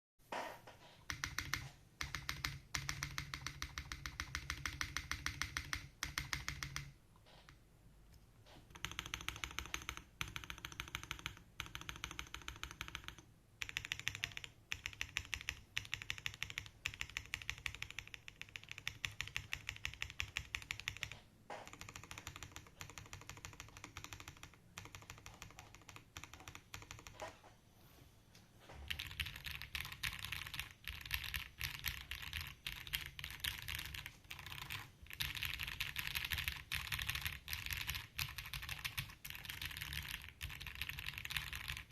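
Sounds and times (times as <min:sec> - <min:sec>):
mechanical keyboard typing: 0:01.0 - 0:06.9, 0:08.7 - 0:27.4, 0:28.9 - 0:41.9.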